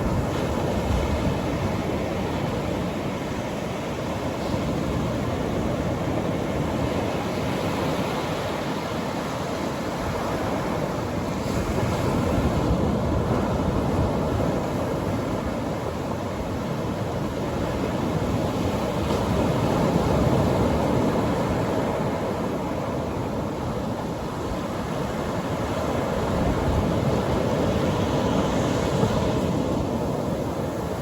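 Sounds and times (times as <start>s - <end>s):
surf breaking on a beach: 0.0s - 31.0s.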